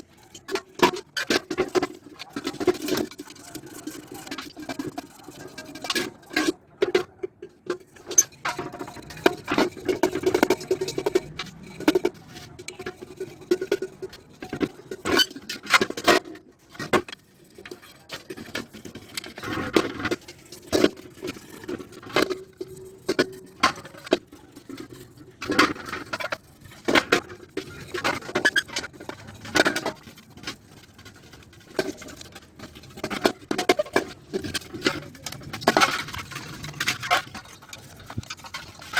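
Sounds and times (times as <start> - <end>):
scraping and rubbing on metal: 0.0 - 38.9.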